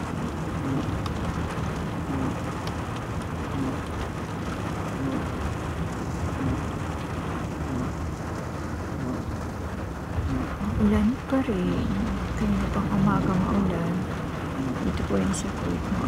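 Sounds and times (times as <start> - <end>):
rain hiss: 0.0 - 16.0
road rumble inside car: 0.0 - 16.0.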